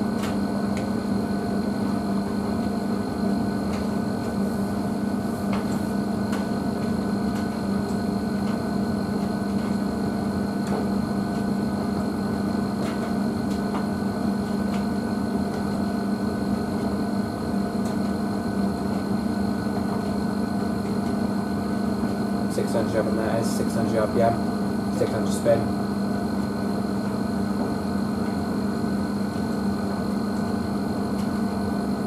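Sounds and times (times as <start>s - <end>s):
washing machine motor hum: 0.0s - 32.0s.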